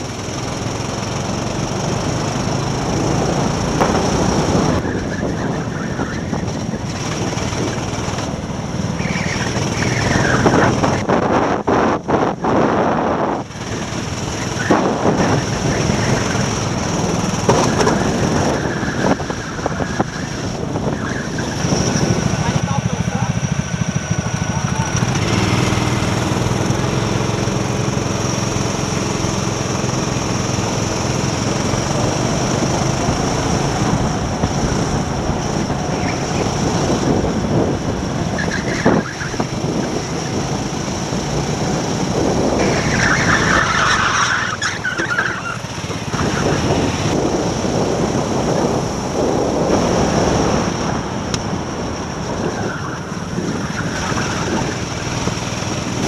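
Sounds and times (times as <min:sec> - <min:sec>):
go-kart engine under load: 0:00.0 - 0:56.0
other go-kart engines: 0:00.0 - 0:56.0.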